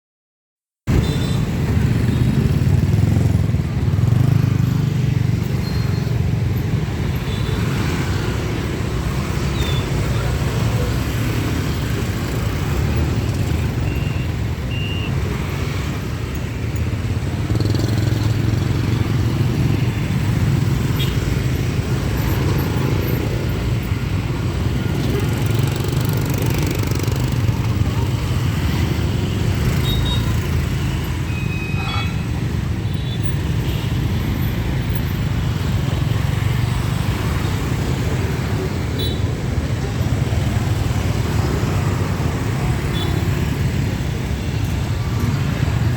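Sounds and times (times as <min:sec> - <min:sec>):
traffic engines rumbling: 0:00.9 - 0:45.9.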